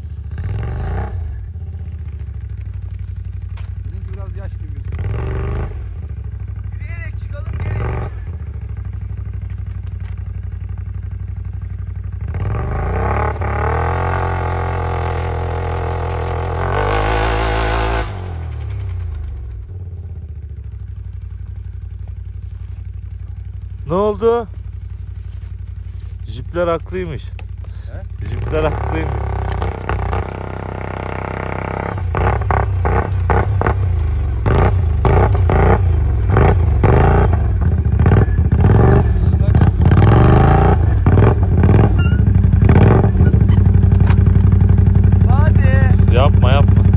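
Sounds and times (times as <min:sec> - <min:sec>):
quad bike engine revving: 0:00.0 - 0:09.8, 0:10.5 - 0:21.8, 0:26.3 - 0:46.9.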